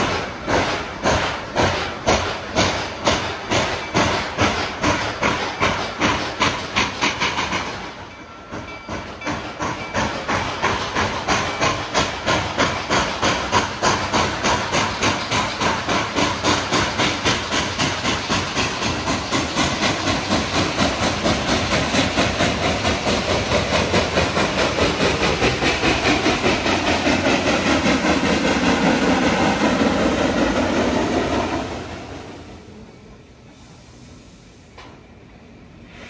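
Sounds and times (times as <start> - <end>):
steam hissing: 0.0 - 36.0
steam locomotive chuffing: 0.0 - 36.0.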